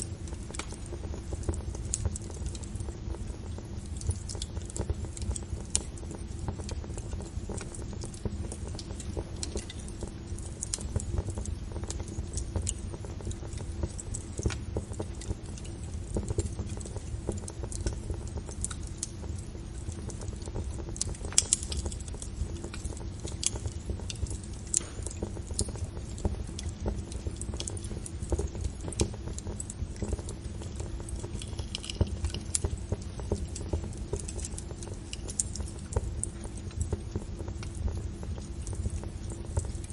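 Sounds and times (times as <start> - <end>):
fire crackling: 0.0 - 39.9
low rumble of flames: 0.0 - 39.9.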